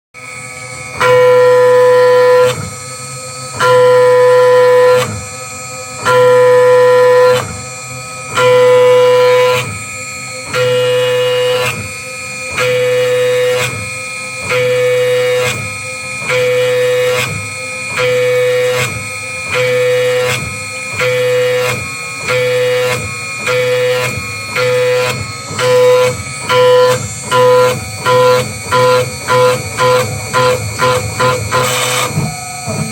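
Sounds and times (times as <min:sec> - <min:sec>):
router spindle cutting whine: 0:00.2 - 0:32.9.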